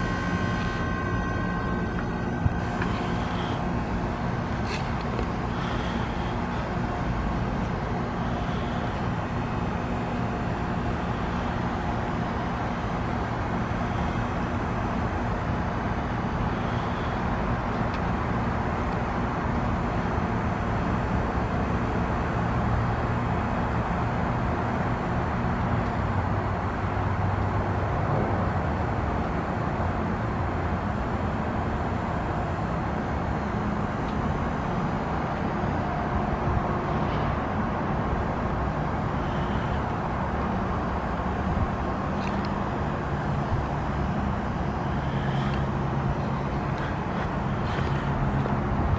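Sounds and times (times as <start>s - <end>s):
heat pump compressor hum: 0.0s - 48.9s.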